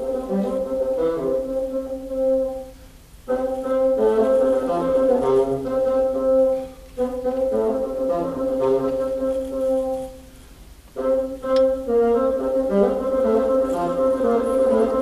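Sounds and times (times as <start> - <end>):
wind concert band playing chords: 0.0 - 15.0.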